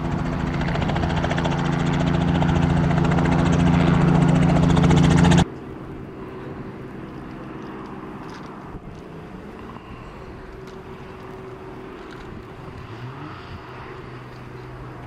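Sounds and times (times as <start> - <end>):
helicopter engine and rotors: 0.0 - 15.0.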